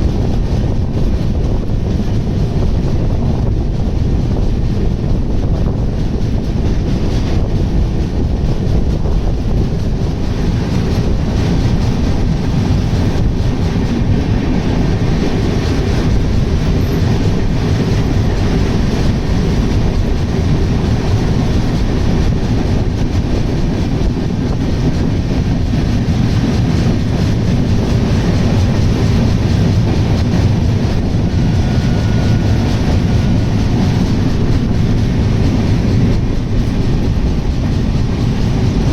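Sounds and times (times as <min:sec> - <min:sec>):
clickety-clack of rail joints: 0:00.0 - 0:38.9
train wheels rumbling on track: 0:00.0 - 0:38.9.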